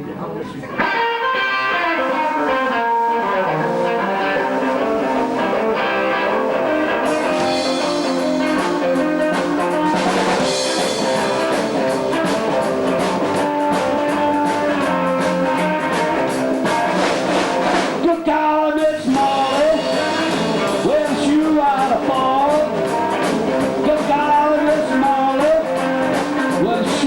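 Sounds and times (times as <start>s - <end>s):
live rockabilly band: 0.0s - 27.0s
drum kit: 0.8s - 27.0s.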